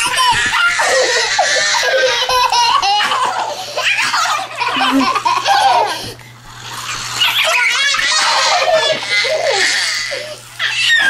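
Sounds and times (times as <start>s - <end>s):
young children laughing and squealing: 0.0s - 11.0s.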